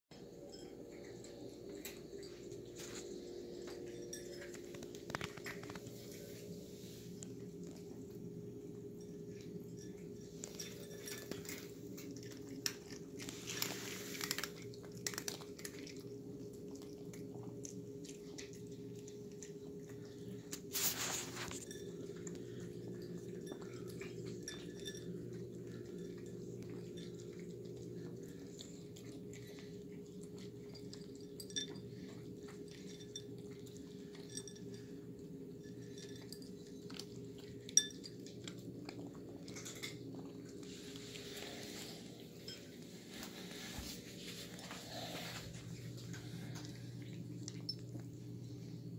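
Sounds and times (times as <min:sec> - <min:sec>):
cats chewing and lapping: 0:00.1 - 0:48.9
low hum: 0:00.1 - 0:48.9.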